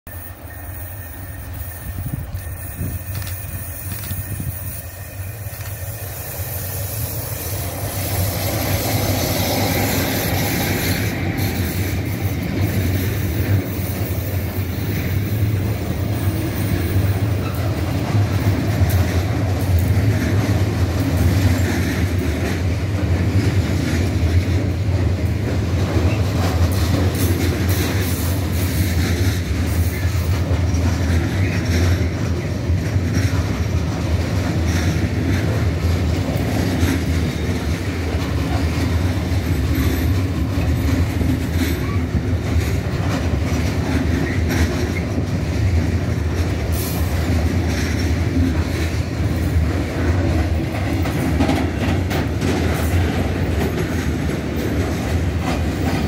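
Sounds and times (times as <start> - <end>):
freight train wagons rumbling: 0.1 - 56.0.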